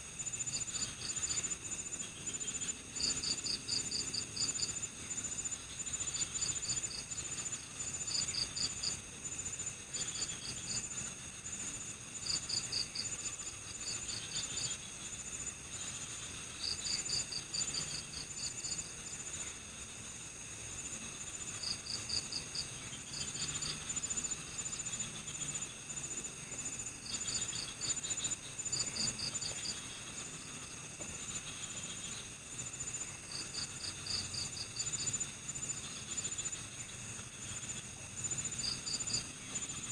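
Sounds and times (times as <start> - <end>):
cricket steady rapid trill: 0.0 - 39.9
crickets chirping in pulsed bursts: 0.0 - 39.9.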